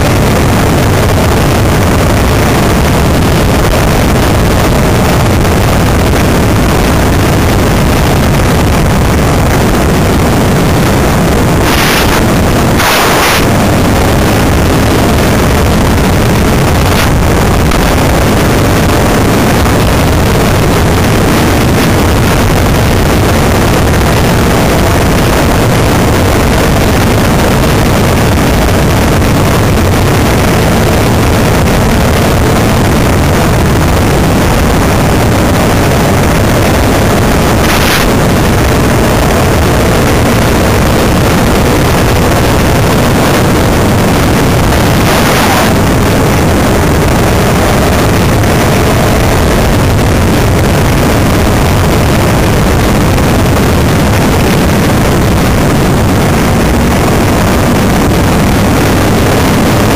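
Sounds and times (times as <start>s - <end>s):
motorcycle engine running: 0.0s - 54.2s
wind buffeting microphone: 0.0s - 59.9s.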